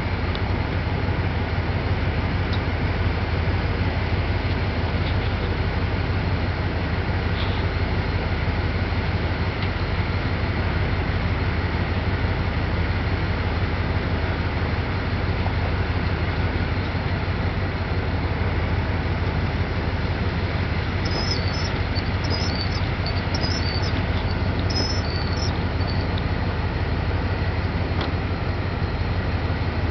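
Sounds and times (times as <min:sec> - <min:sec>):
combine harvester droning: 0:00.0 - 0:29.9.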